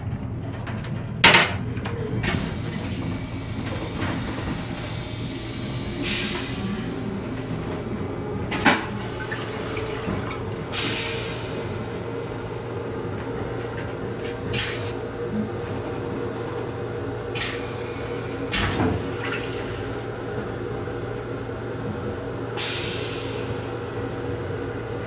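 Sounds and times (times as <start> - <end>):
railcar hum: 0.0 - 25.0.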